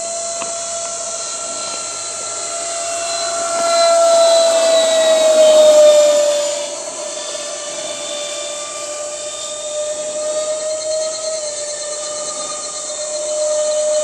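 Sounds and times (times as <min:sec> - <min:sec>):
hiss: 0:00.0 - 0:14.0
model airplane motor whine: 0:00.0 - 0:14.0.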